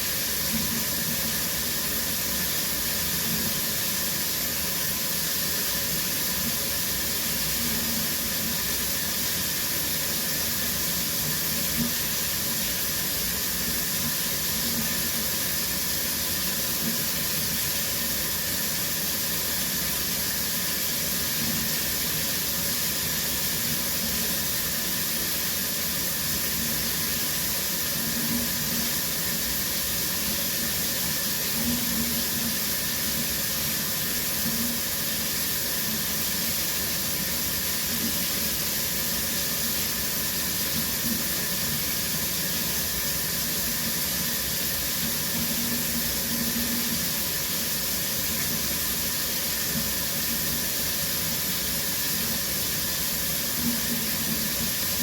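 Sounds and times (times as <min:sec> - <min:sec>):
shower water spraying: 0:00.0 - 0:55.0.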